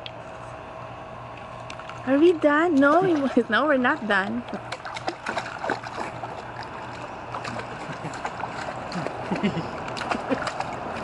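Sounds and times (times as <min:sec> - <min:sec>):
pool water lapping and sloshing: 0:01.7 - 0:11.0
small water splashes: 0:01.8 - 0:11.0.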